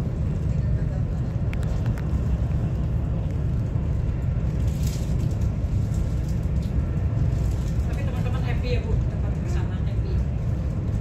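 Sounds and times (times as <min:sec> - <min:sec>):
train cabin rumble and hiss: 0:00.0 - 0:11.0.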